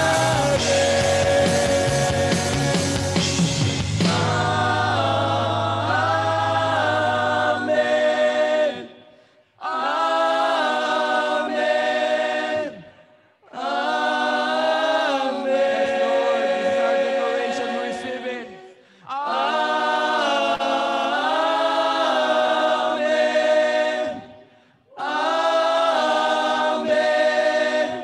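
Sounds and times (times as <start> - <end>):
people singing held chords: 0.0 - 28.0.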